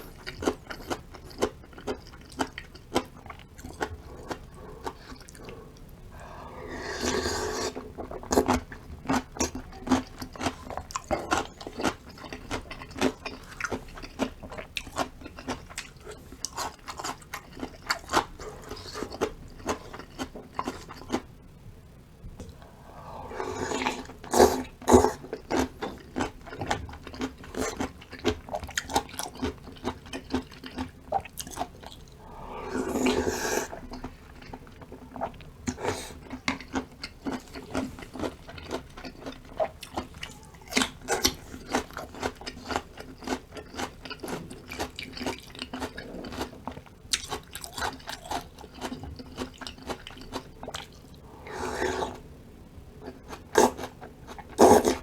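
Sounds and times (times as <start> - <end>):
wet chewing and crunching: 0.0 - 6.0, 7.1 - 21.3, 23.7 - 32.3, 32.9 - 51.2.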